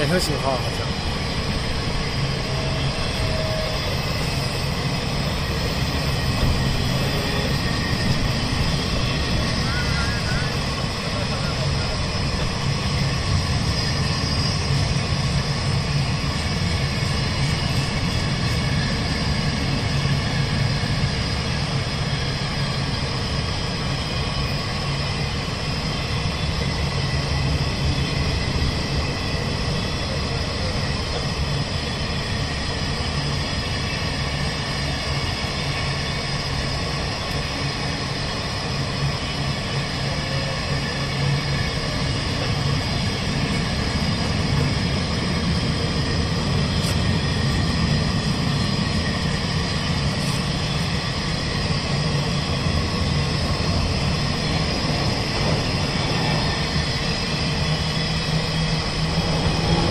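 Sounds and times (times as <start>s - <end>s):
steel wheels running on rails: 0.0s - 59.9s.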